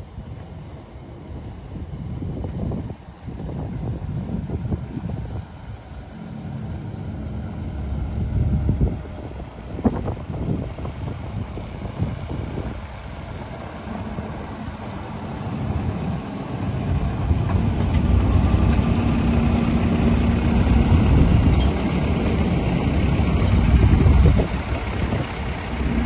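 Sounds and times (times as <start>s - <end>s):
miniature locomotive engine passing: 0.0s - 26.0s.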